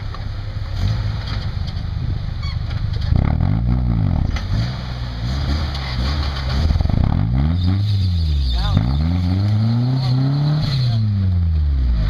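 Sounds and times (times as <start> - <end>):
truck engine rumbling under load: 0.0 - 12.0.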